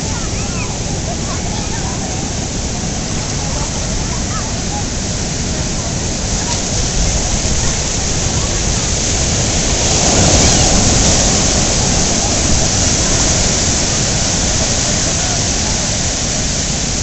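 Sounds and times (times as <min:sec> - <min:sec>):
heavy surf rushing: 0:00.0 - 0:17.0
wind buffeting microphone: 0:00.0 - 0:17.0.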